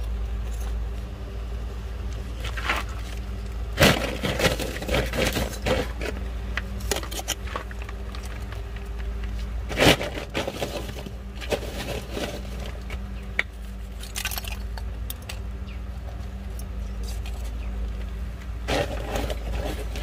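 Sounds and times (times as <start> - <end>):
scraping and cracking handling noises: 0.0 - 1.2, 2.0 - 20.0
steady low hum: 0.0 - 20.0.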